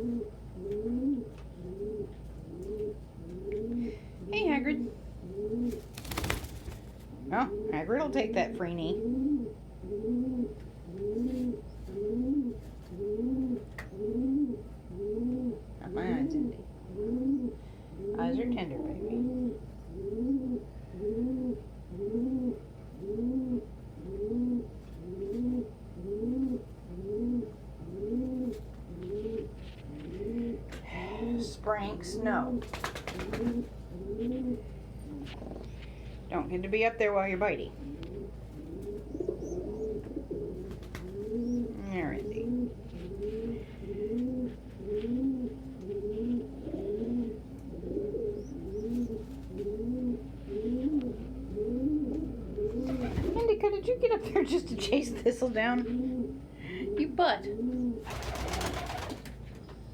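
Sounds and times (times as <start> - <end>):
pigeon cooing: 0.0 - 8.2, 8.8 - 36.0, 37.6 - 59.3.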